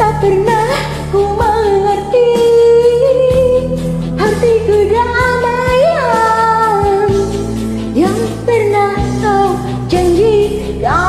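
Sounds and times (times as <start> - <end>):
karaoke backing track: 0.0 - 11.0
woman singing pop song: 0.0 - 11.0.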